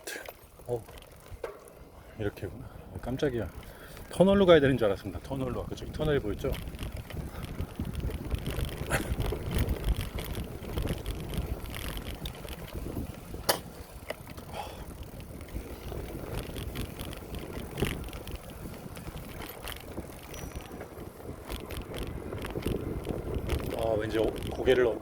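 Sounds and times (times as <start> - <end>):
bicycle road noise: 0.0 - 25.0
wind buffeting microphone: 0.6 - 25.0.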